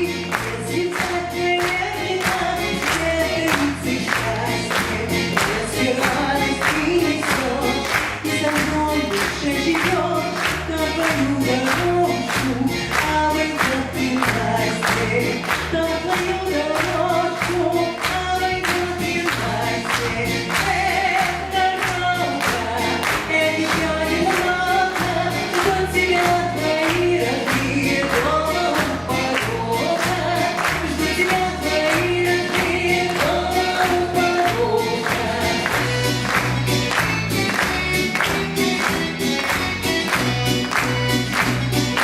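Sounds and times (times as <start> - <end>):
bass line: 0.0 - 42.0.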